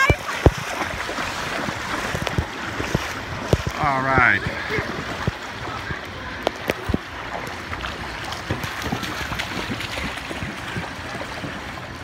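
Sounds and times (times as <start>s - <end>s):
water rushing: 0.0s - 12.0s
wind buffeting microphone: 0.0s - 12.0s.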